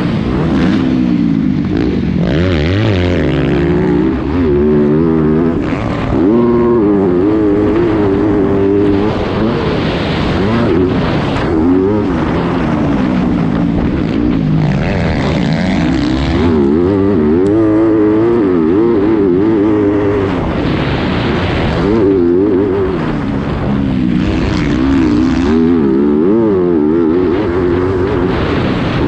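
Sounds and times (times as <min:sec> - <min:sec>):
motorcycle engine under throttle: 0:00.0 - 0:29.0.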